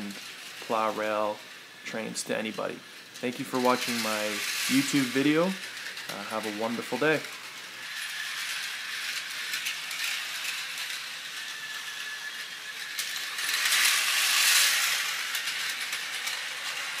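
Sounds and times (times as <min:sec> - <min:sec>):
toy train motor whir: 0:00.0 - 0:17.0
toy train wheels rattling: 0:00.0 - 0:17.0.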